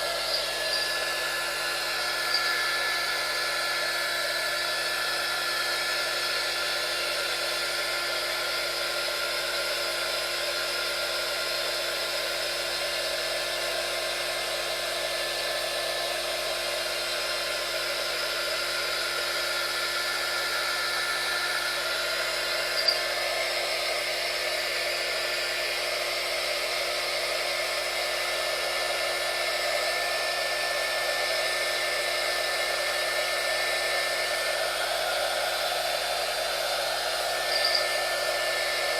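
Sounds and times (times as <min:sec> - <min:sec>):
heat gun fan whining: 0:00.0 - 0:38.9.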